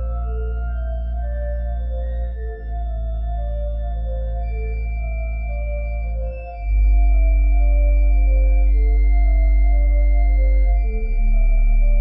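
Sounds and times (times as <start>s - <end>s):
ambient organ-like keyboard chords: 0.0s - 12.0s
steady low bass: 0.0s - 12.0s.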